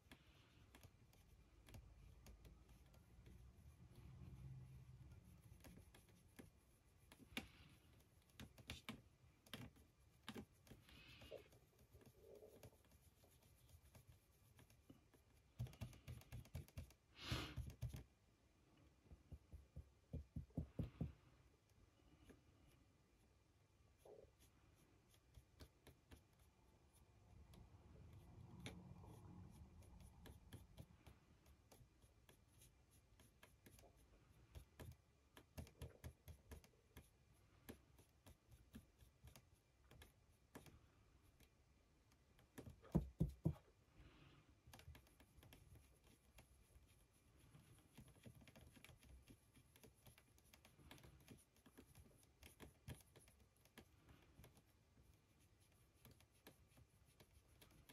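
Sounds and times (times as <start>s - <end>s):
brush clicks and taps on model: 0.0s - 23.0s, 24.0s - 43.8s, 44.5s - 57.9s.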